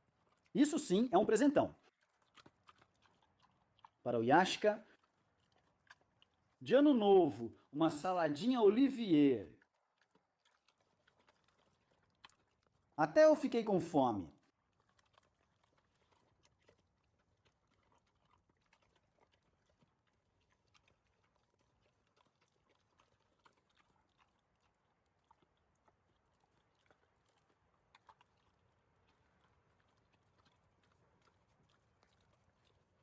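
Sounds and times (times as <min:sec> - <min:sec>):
animal chewing and smacking: 0:00.0 - 0:33.0.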